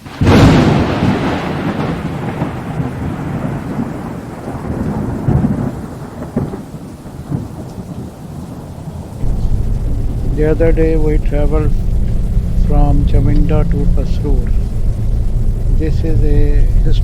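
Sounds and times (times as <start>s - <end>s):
thunder crack and rumble: 0.0s - 17.0s.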